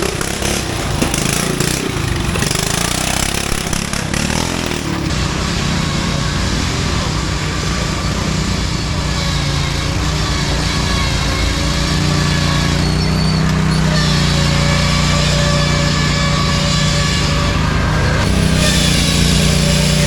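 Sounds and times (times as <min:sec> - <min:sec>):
riding lawn mower engine running: 0:00.0 - 0:20.0.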